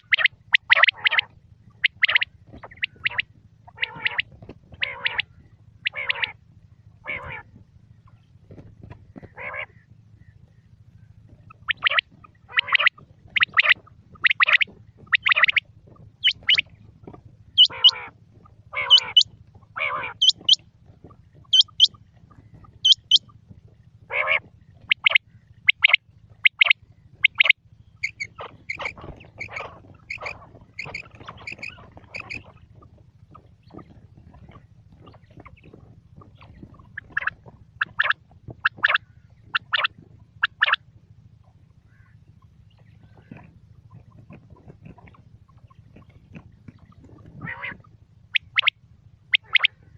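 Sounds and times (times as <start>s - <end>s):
faint low hum: 0.0s - 49.9s
quail calling: 0.0s - 49.9s.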